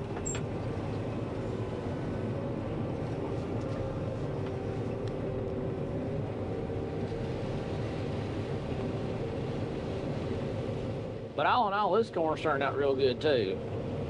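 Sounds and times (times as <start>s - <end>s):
combine harvester machinery drone: 0.0s - 14.0s.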